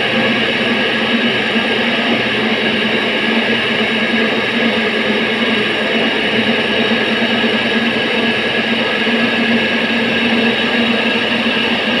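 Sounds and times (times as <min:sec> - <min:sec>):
machinery droning and humming: 0:00.0 - 0:12.0.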